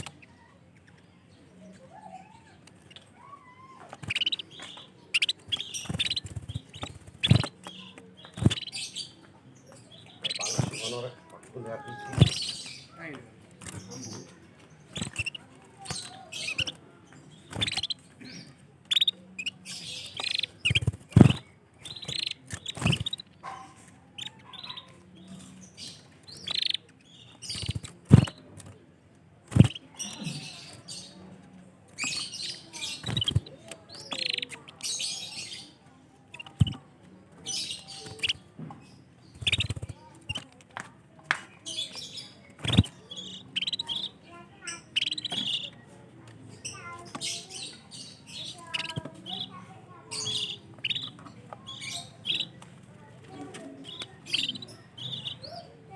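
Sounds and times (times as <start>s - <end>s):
canaries chirping: 0.0s - 55.9s.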